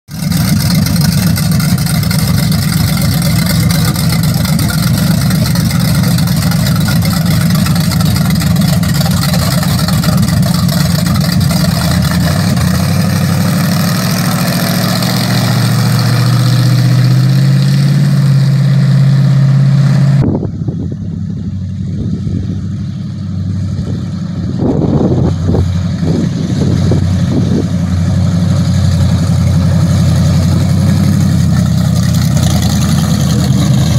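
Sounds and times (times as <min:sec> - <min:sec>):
loud pickup truck engine: 0:00.0 - 0:33.9.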